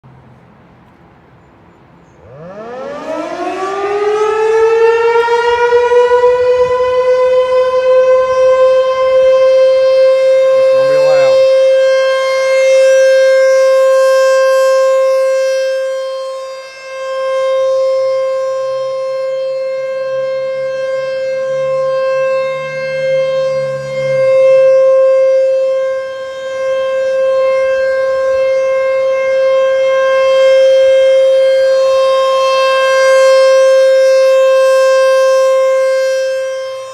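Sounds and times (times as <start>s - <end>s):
warning siren winding up: 2.2s - 36.9s.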